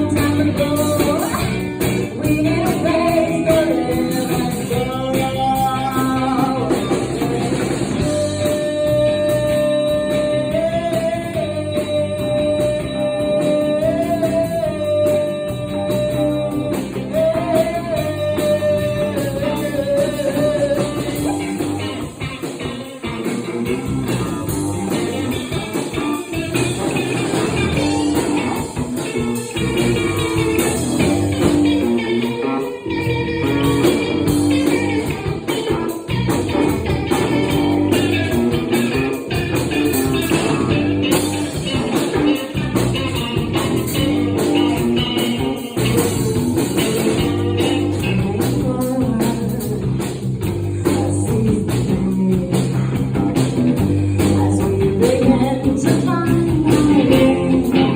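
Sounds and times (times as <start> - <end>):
electric guitar: 0.0 - 57.9
rock band playing live: 0.0 - 57.9.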